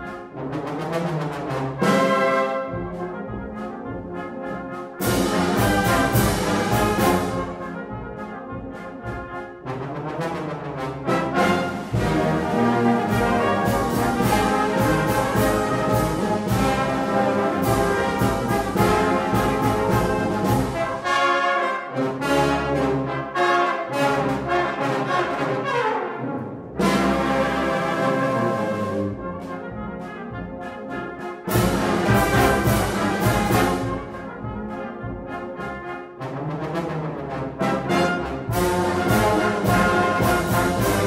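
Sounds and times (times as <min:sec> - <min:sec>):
brass band music: 0:00.0 - 0:41.0.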